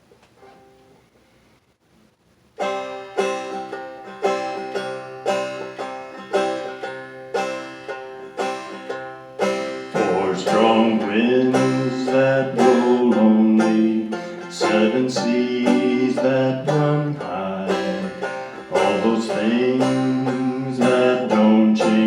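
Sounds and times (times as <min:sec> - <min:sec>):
banjo picking: 0:02.6 - 0:22.0.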